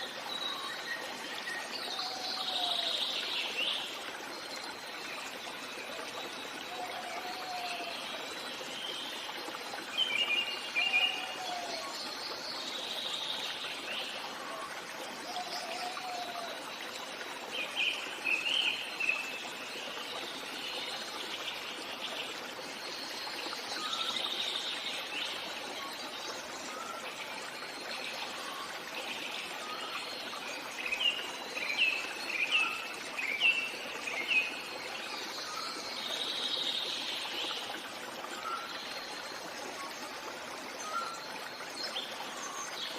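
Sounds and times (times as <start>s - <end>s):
stream trickling: 0.0s - 42.9s.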